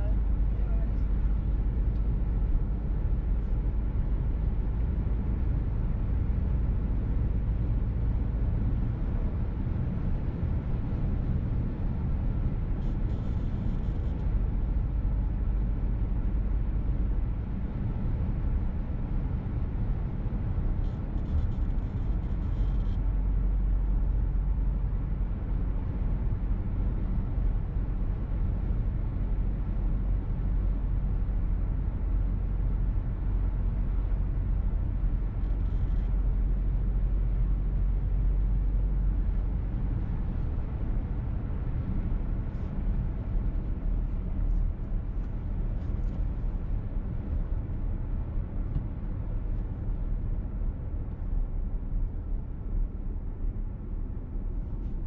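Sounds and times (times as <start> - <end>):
in-cabin road and engine rumble: 0.0 - 55.0.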